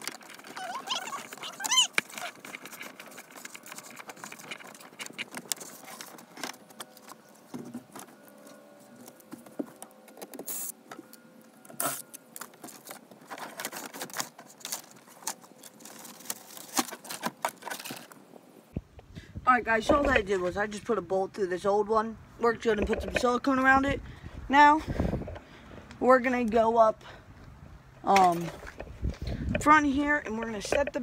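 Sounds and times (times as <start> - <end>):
cables rustling and scraping: 0.0 - 21.2, 22.4 - 24.1, 28.0 - 31.0.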